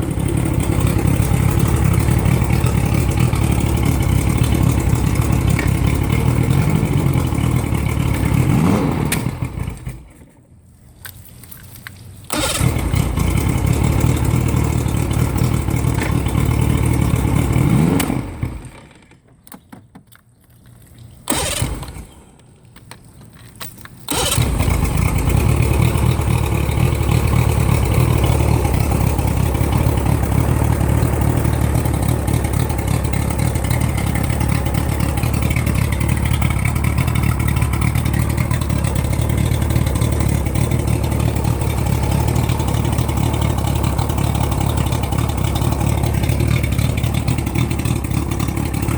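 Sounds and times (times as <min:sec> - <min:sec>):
outboard motor running: 0:00.0 - 0:10.0, 0:12.3 - 0:19.2, 0:21.2 - 0:22.4, 0:24.1 - 0:48.9.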